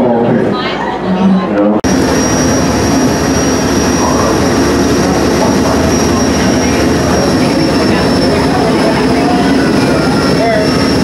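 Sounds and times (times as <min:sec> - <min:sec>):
boat engine running: 0:01.8 - 0:11.0
thin high whine: 0:01.8 - 0:11.0
water rushing: 0:01.9 - 0:11.0.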